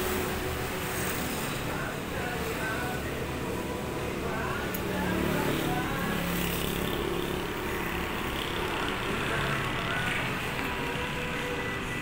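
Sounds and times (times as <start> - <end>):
passing cars and motorbikes: 0.0 - 12.0.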